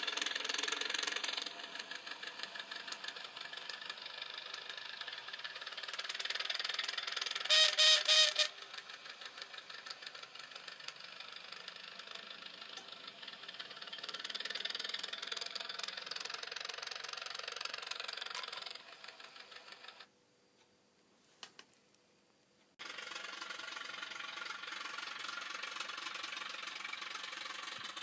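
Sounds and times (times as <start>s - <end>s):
small engine clattering: 0.0s - 20.1s, 22.8s - 28.0s.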